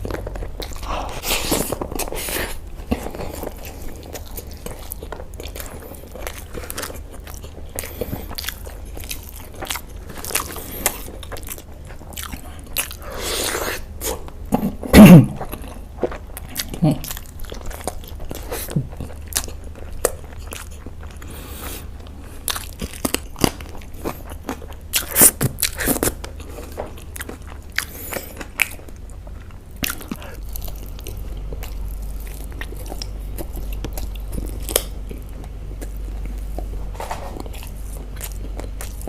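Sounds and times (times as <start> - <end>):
low hum: 0.0 - 13.2, 13.9 - 39.0
person chewing food: 0.0 - 39.0.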